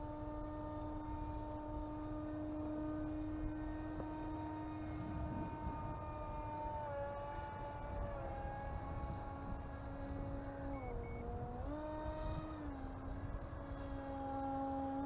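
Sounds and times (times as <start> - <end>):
model plane motor whining: 0.0 - 15.0
wind rumbling on microphone: 0.0 - 15.0.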